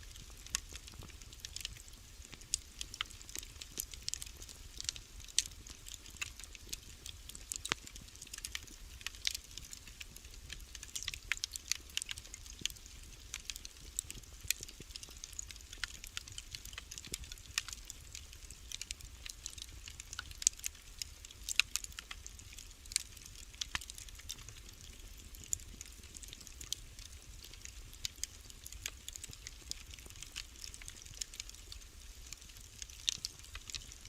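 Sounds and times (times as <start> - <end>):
faint steady hiss: 0.0 - 34.0
wood fire crackling and popping: 0.0 - 34.0.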